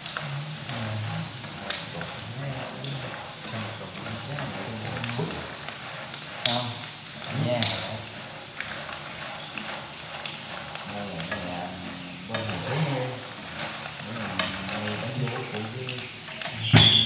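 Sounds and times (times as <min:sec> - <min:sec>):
pasta sizzling in oil: 0:00.0 - 0:17.0.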